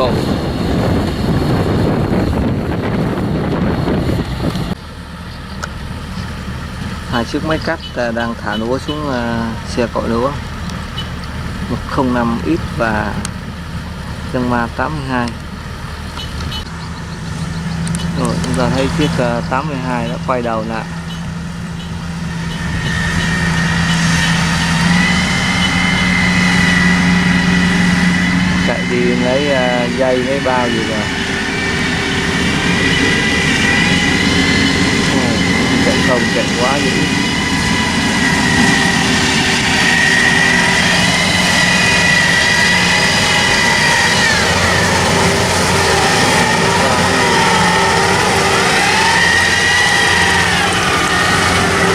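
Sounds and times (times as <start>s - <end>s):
combine harvester diesel engine: 0.0s - 51.9s
high whine: 0.0s - 51.9s.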